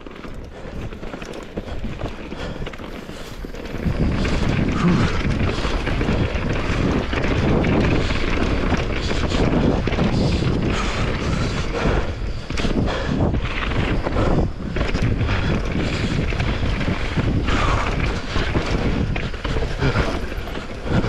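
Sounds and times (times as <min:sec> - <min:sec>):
bike clattering over dirt trail: 0:00.0 - 0:21.0
wind buffeting microphone: 0:00.0 - 0:21.0.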